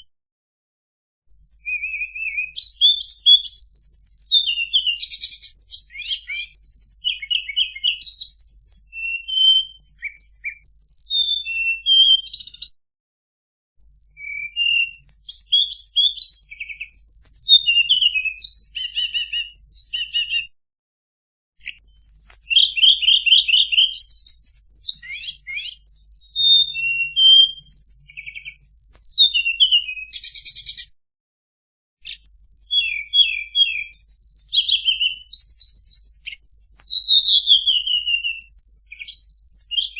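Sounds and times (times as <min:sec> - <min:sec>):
bird singing chirps and trills: 0:01.3 - 0:12.7, 0:13.8 - 0:20.5, 0:21.6 - 0:30.9, 0:32.0 - 0:39.9.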